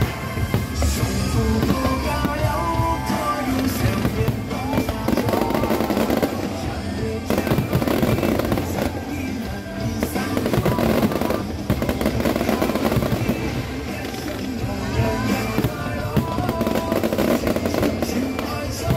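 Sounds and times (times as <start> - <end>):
fireworks bangs and crackles: 0.0 - 18.9
loud music: 0.0 - 18.9.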